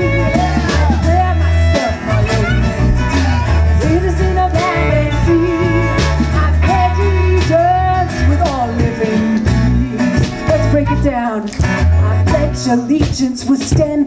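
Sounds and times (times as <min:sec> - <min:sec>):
folk band playing: 0:00.0 - 0:14.0
woman singing: 0:00.0 - 0:14.0.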